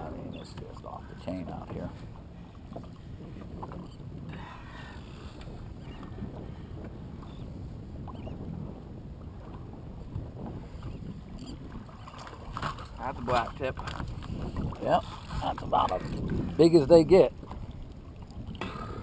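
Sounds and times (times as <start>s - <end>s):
water slapping boat hull: 0.0s - 19.0s.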